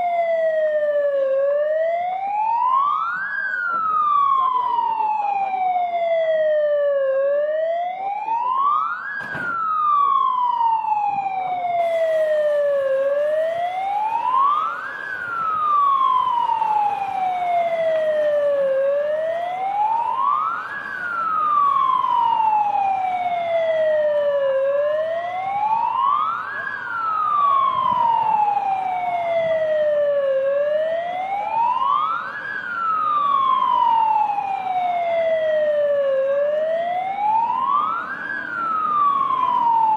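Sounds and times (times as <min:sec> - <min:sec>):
fire engine siren wailing: 0:00.0 - 0:39.9.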